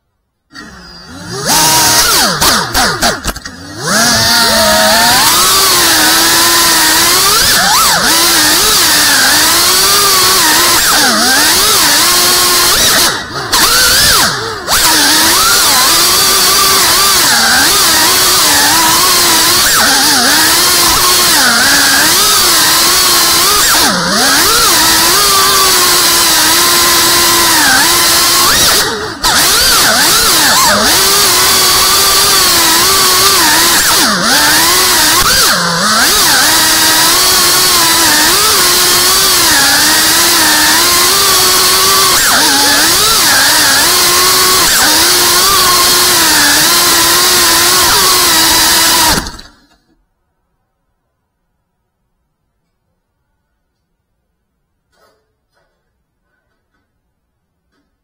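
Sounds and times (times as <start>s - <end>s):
drone motors whining: 0.5s - 49.8s.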